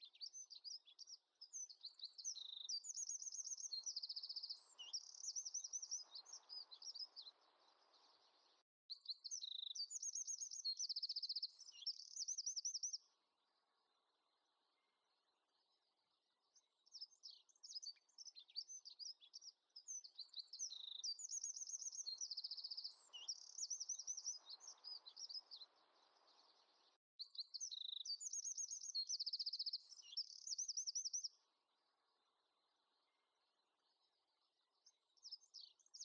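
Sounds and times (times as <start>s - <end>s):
songbird chirping and trilling: 0.0s - 36.0s.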